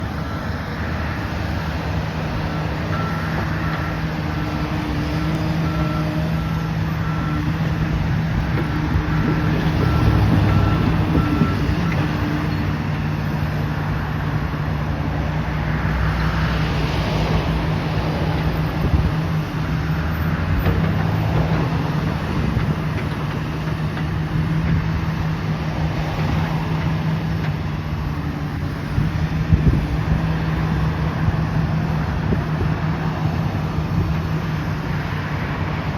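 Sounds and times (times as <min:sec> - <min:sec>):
heavy vehicle engine running: 0:00.0 - 0:35.9.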